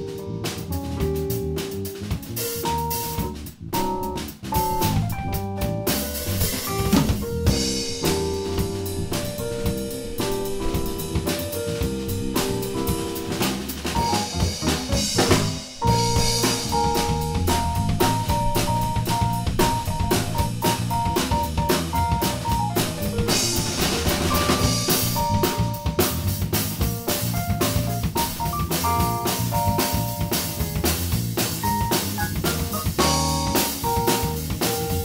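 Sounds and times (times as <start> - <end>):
drum kit beat: 0.0 - 35.0
held keyboard notes: 0.0 - 35.0
live jazz-funk band playing: 0.0 - 35.0.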